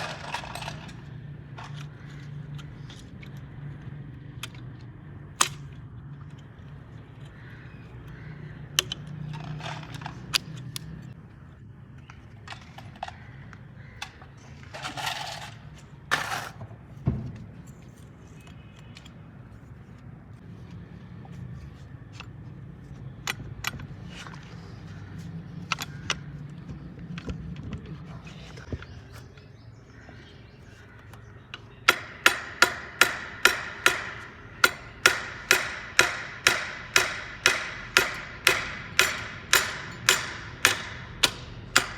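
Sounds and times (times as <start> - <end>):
tools clinking and knocking: 0.0 - 7.4, 8.0 - 11.2, 12.0 - 19.2, 22.1 - 29.5, 31.0 - 41.9.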